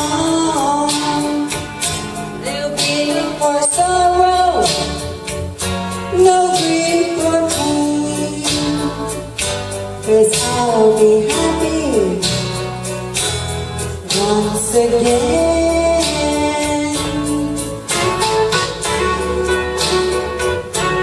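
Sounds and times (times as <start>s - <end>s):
woman singing a ballad: 0.0s - 13.1s, 13.9s - 21.0s
backing track music: 0.0s - 21.0s.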